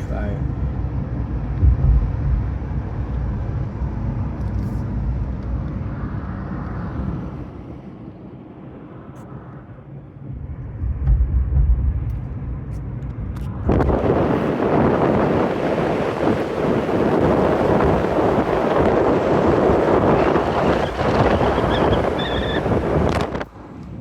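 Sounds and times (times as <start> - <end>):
car road and engine rumble: 0.0 - 24.0
wind noise on microphone: 0.0 - 24.0.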